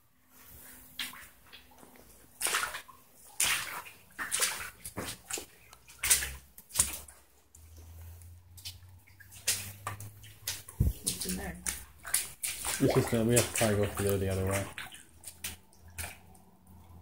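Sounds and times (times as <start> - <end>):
footsteps crunching on wet ground: 1.0 - 16.2.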